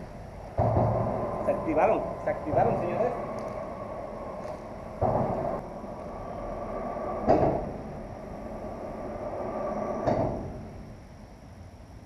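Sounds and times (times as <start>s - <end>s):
traffic hum on bridge: 0.0s - 12.0s.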